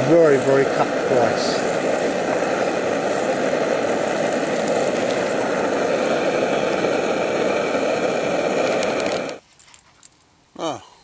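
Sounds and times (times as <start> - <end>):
camping stove burner roaring: 0.0 - 9.4.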